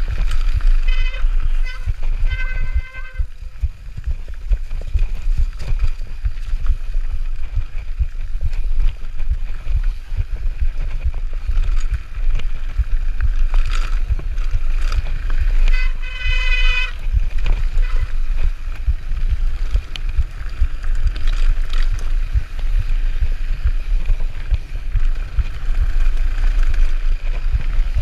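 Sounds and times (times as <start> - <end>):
bike rattling over rocks: 0.0 - 28.0
wind rumble on microphone: 0.0 - 28.0.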